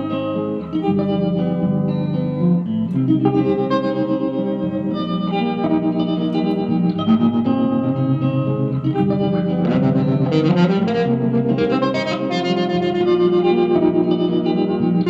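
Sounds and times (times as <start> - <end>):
electric guitar notes and chords: 0.0 - 15.0.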